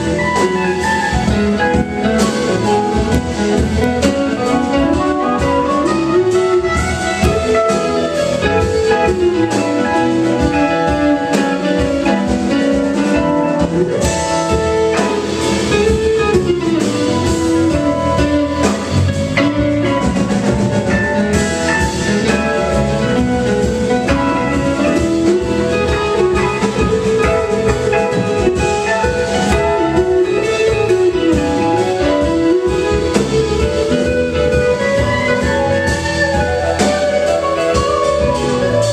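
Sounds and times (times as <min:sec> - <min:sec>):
bass guitar: 0:00.0 - 0:38.9
drum kit: 0:00.0 - 0:38.9
electric guitar lead: 0:00.0 - 0:38.9
keyboards: 0:00.0 - 0:38.9.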